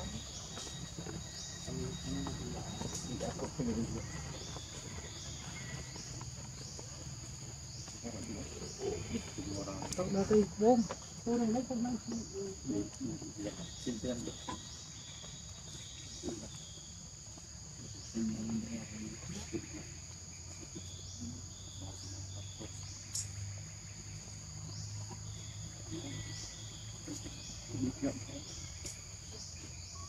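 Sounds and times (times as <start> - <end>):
insects chorus: 0.0 - 30.0.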